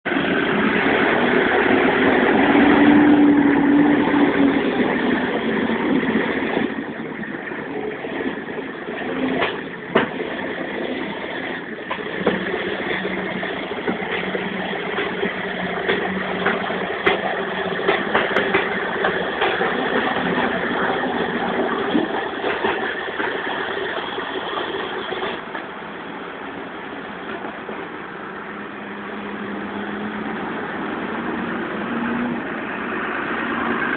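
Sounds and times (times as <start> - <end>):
tractor diesel engines running: 0.1 - 33.9.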